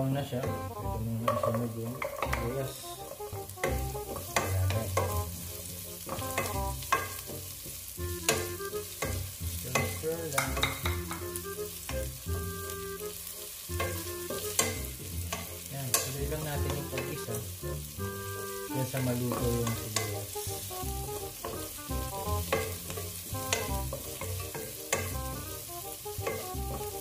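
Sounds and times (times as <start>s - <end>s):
garlic and onion sizzling in oil: 0.0s - 27.0s
spatula scraping a pan: 1.4s - 17.4s, 18.2s - 27.0s.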